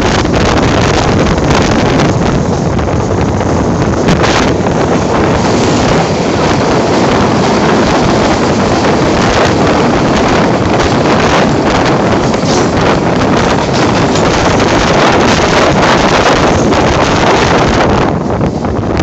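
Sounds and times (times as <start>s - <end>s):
freight train rumbling past: 0.0s - 19.0s
wind buffeting microphone: 0.0s - 19.0s.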